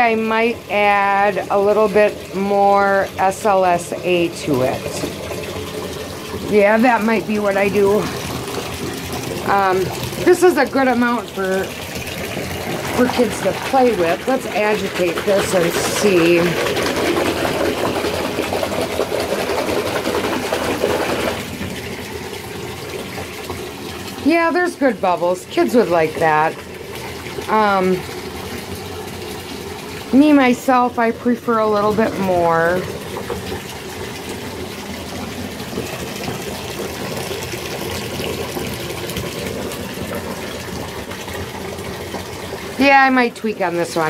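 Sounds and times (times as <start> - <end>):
bathwater sloshing and splashing: 0.0 - 44.0.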